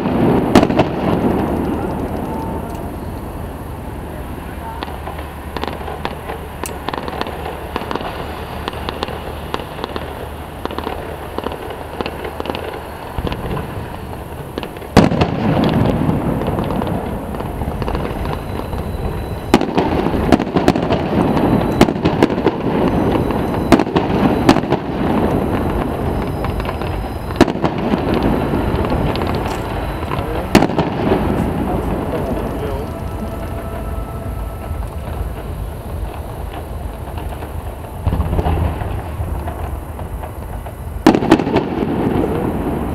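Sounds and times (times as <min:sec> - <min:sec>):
fireworks bangs: 0:00.0 - 0:42.9
fireworks crackling and popping: 0:00.0 - 0:42.9.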